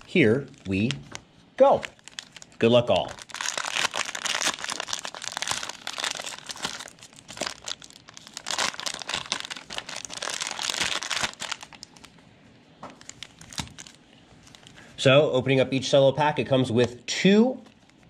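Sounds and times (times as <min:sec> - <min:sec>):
cellophane wrapper crinkling: 0:00.0 - 0:12.2, 0:12.9 - 0:14.9, 0:17.6 - 0:18.0.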